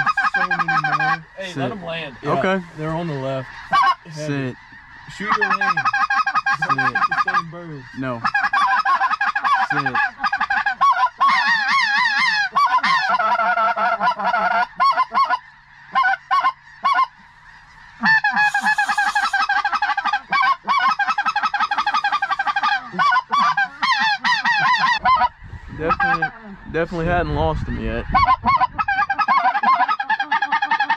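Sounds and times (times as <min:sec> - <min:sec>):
goose honking: 0:00.0 - 0:30.9.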